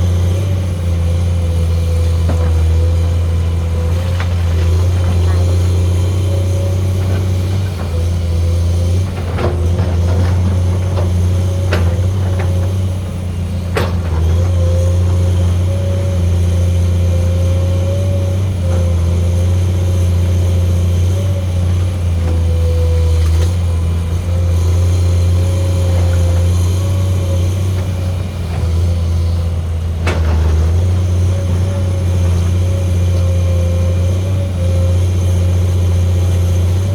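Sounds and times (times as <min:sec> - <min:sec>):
excavator engine droning: 0:00.0 - 0:36.9.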